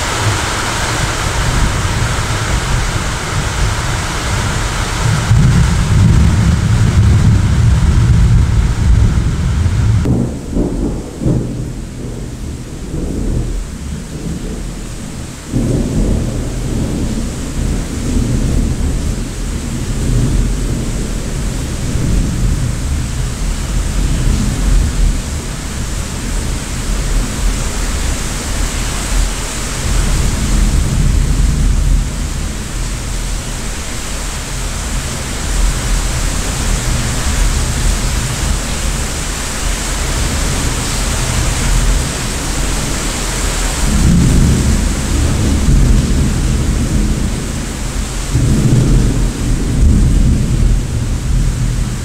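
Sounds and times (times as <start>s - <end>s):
heavy rain: 0.0s - 52.0s
thunder rumbling: 0.0s - 52.0s.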